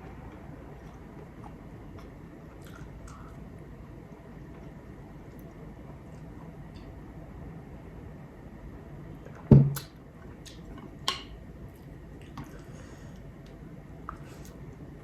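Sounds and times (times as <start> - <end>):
soft eating sounds: 0.0 - 7.4, 9.0 - 15.0.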